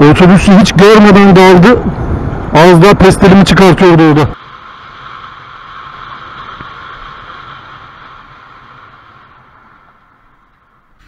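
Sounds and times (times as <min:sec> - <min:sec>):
low engine hum: 0:00.0 - 0:11.0
wind and road rushing: 0:00.0 - 0:11.0.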